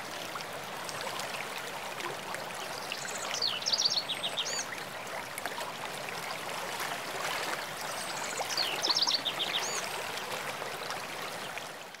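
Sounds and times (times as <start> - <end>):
water splashing in creek cascade: 0.0 - 3.4, 4.4 - 12.0.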